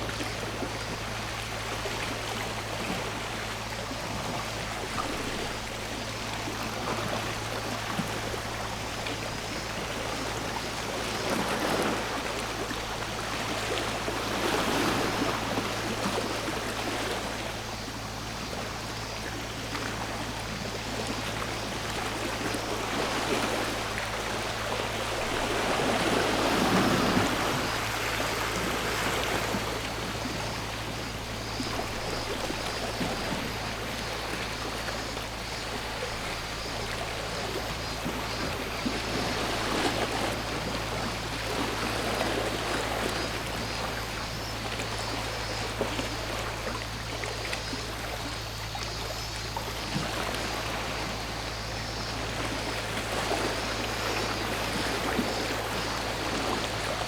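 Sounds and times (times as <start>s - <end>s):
waves washing onto shore: 0.0s - 57.0s.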